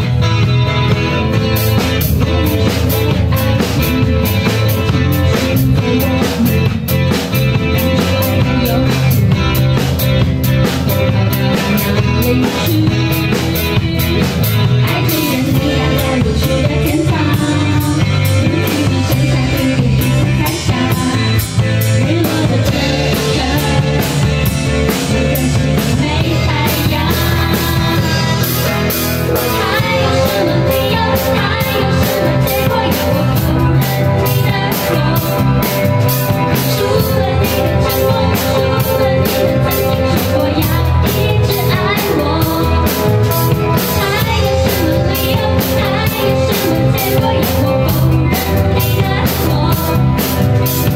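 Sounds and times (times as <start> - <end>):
drum kit beat: 0.0 - 50.9
guitar: 0.0 - 50.9
person singing: 2.2 - 9.8, 10.9 - 28.7, 29.3 - 50.9.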